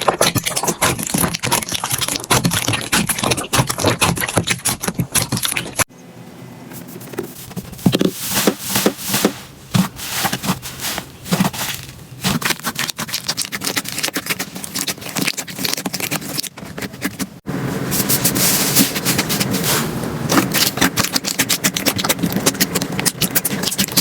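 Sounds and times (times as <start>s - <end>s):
slime squishing and crackling: 0.0s - 5.9s, 7.3s - 17.4s, 18.0s - 24.0s.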